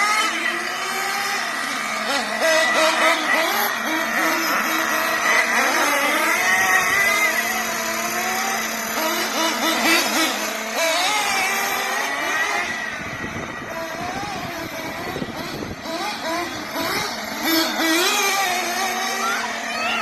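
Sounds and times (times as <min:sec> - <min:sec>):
small engines high-pitched buzz: 0:00.0 - 0:20.0.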